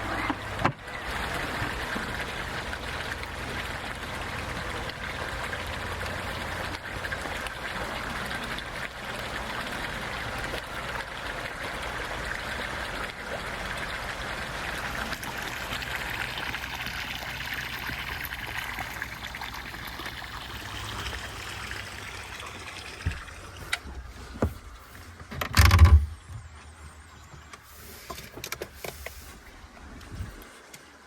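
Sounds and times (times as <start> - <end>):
water trickling: 0.4 - 31.0.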